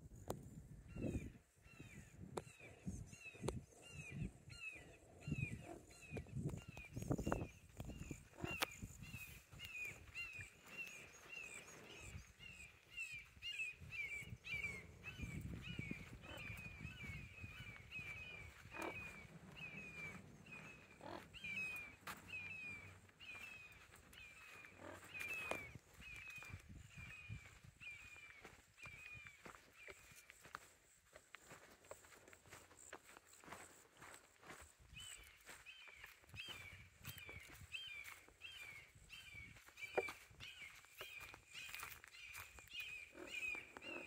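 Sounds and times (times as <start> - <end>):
hawks calling: 0.9 - 30.7, 33.7 - 44.0.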